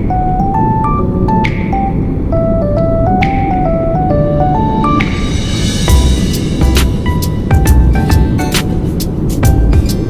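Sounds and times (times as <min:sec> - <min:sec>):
keyboard melody: 0:00.0 - 0:10.0
steady low rumble: 0:00.0 - 0:10.0.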